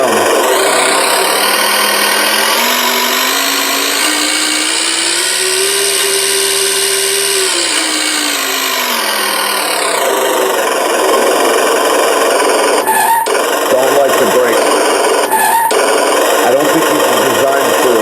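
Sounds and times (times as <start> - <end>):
synthesized diesel engine revving: 0.0 - 18.0.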